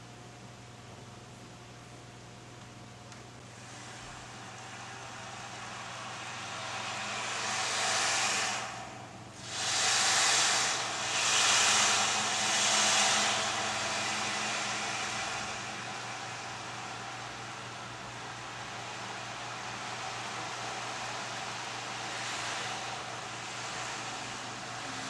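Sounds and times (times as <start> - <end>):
steady low hum: 0.0 - 25.0
rushing hiss-like noise: 3.6 - 25.0.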